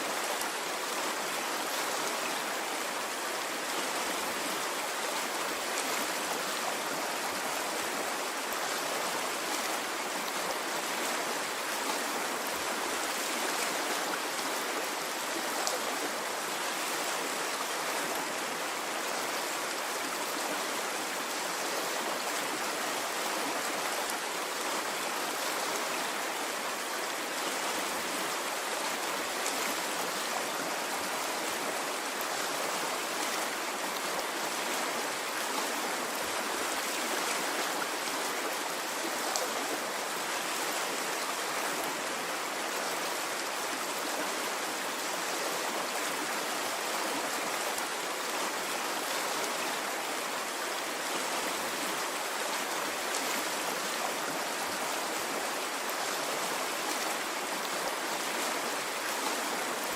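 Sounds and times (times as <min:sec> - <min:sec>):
water stream rushing: 0:00.0 - 0:59.9.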